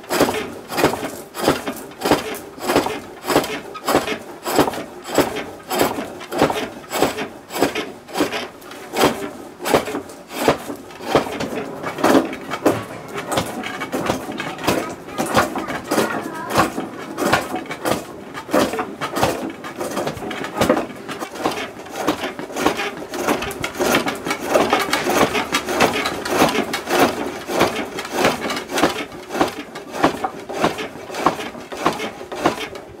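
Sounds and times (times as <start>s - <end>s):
lathe tool cutting wood: 0.2s - 32.6s.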